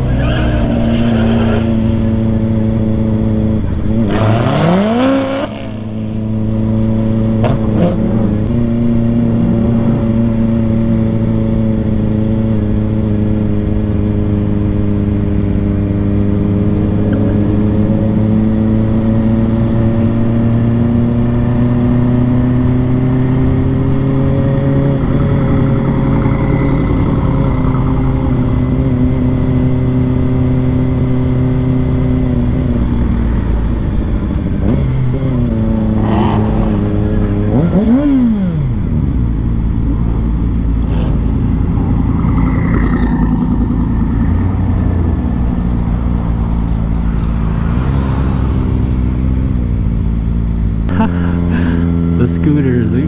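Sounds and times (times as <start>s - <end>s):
motorcycle engine running: 5.8s - 53.0s.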